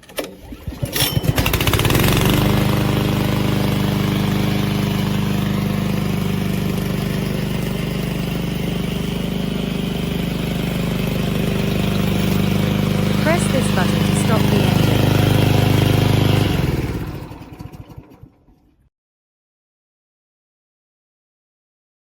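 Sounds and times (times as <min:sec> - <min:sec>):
lawn mower engine pull-started: 0:00.0 - 0:18.9.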